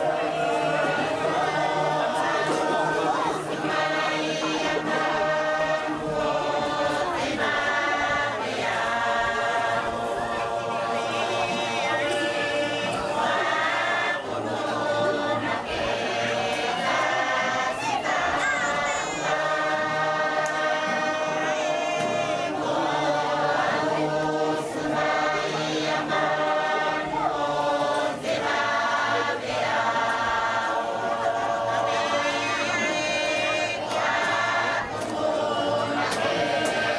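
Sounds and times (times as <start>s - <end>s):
choir singing in harmony: 0.0s - 36.9s.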